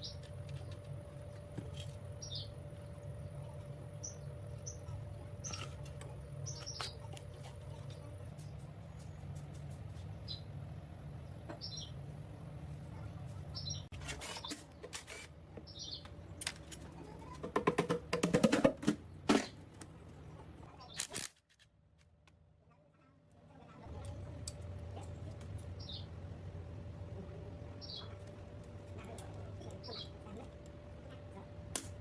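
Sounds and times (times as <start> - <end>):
steady low hum: 0.0 - 17.2, 21.8 - 32.0.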